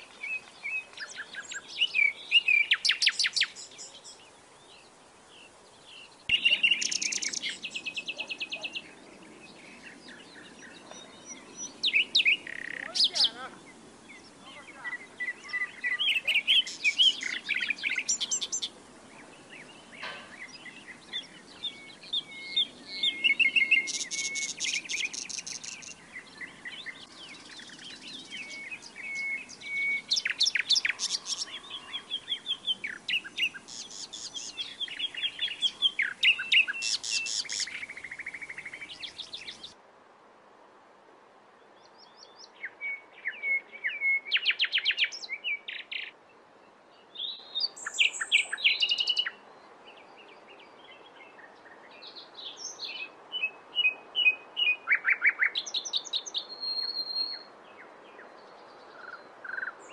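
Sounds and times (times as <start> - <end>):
reed warbler singing: 0.0 - 39.8, 46.9 - 59.9.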